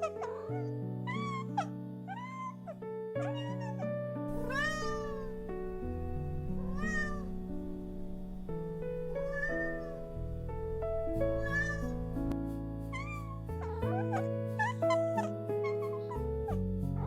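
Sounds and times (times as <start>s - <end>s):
cat meowing: 0.0s - 12.2s, 12.9s - 16.6s
background music of held notes: 0.0s - 17.0s.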